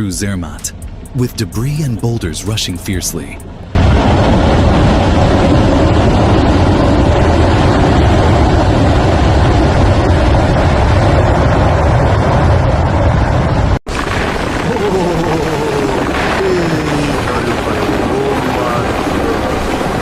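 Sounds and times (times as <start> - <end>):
debris flow rushing rumble: 1.0 - 20.0.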